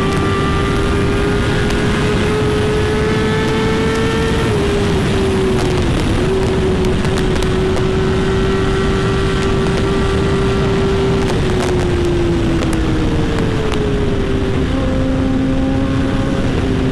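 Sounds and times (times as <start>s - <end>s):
motorcycle engine cruising: 0.0s - 16.9s
wind rush: 0.0s - 16.9s.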